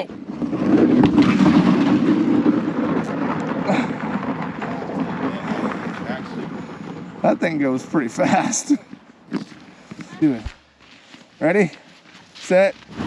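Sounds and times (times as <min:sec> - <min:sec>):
kayak hull scraping across ice: 0:00.1 - 0:13.0.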